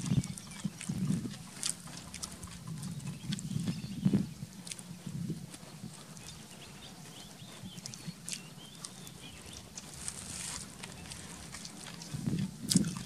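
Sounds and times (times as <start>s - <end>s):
faint bird calls: 0.0s - 12.4s
steady low hum: 0.0s - 13.0s.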